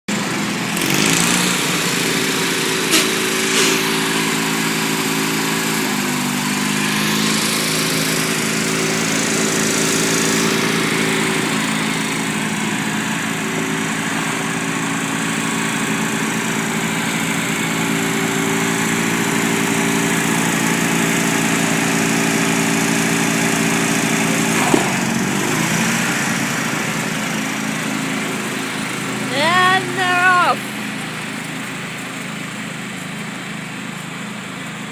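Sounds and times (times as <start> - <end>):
lawn mower engine running: 0.1 - 34.9.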